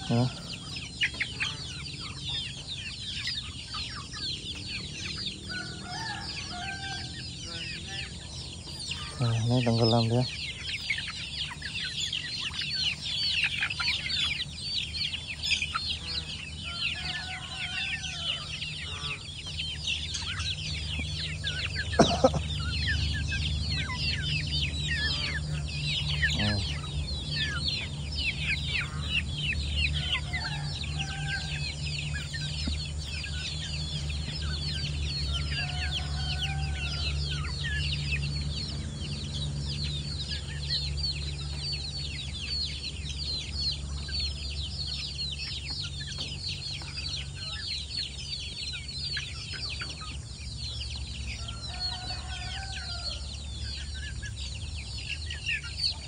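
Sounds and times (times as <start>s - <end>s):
chickens clucking: 0.0s - 56.0s
chicks peeping: 0.0s - 56.0s.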